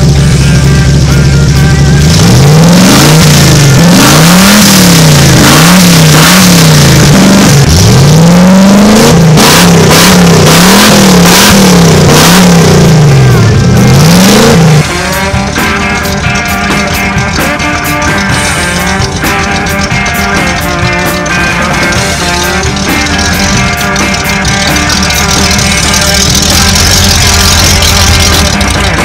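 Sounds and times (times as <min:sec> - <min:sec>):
engine idling and revving: 0:00.0 - 0:29.0
rock music: 0:00.0 - 0:29.0.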